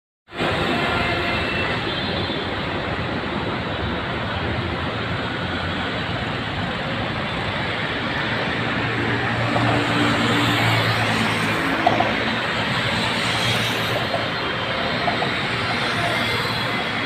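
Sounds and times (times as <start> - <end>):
cars passing: 0.3 - 17.0.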